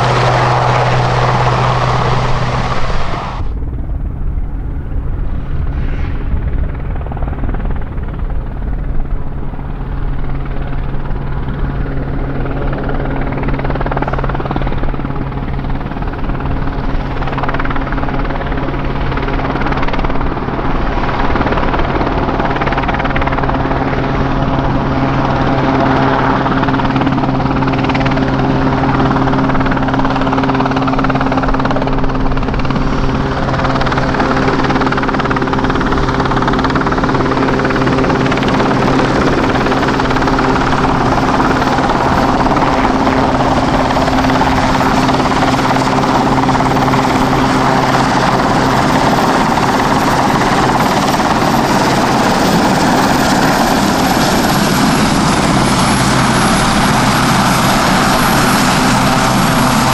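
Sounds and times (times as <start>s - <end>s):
helicopter flying close: 0.0s - 59.9s.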